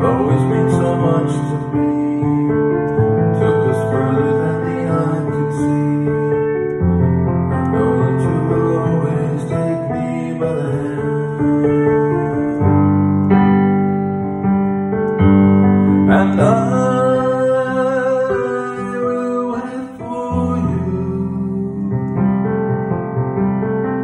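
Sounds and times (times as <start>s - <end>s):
man singing: 0.0s - 12.8s, 15.8s - 22.5s
piano playing held chords: 0.0s - 24.0s.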